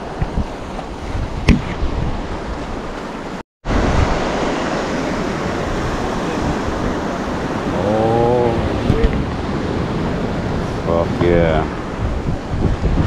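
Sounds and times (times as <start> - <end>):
ocean surf on shore: 0.0 - 13.0
wind on microphone: 0.0 - 13.0.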